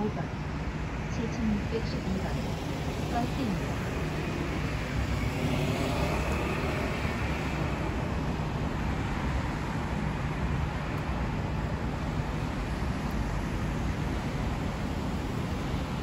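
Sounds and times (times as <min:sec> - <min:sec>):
cars passing: 0:00.0 - 0:16.0.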